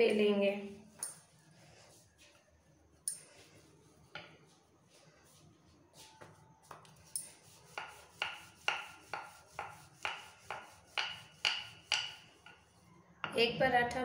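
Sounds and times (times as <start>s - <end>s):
rolling pin rolling dough: 0.8s - 13.5s.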